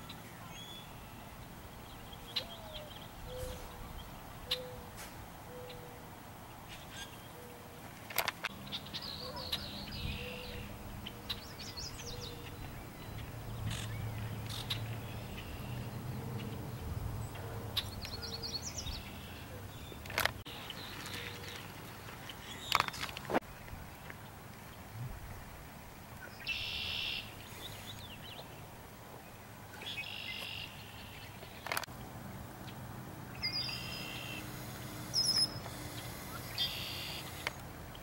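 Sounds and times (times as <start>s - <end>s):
blackbirds singing trilled songs: 0.0s - 7.8s, 8.5s - 23.2s, 26.2s - 28.7s, 29.7s - 31.8s, 33.3s - 34.4s, 35.2s - 37.4s.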